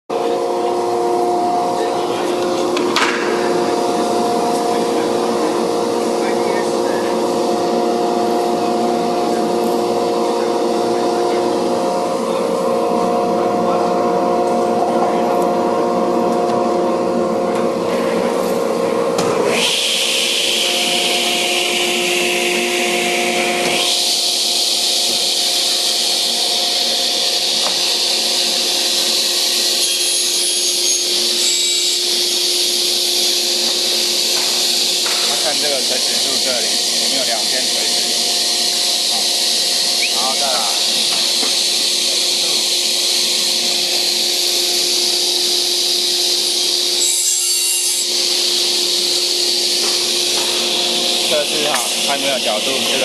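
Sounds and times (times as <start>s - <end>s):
panel saw machine hum: 0.1s - 53.0s.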